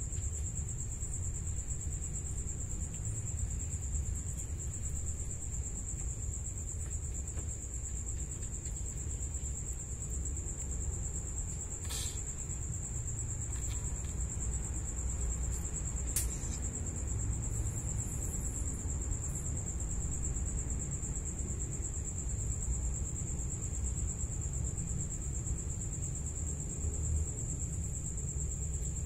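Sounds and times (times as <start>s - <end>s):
cricket trilling: 0.0s - 29.0s.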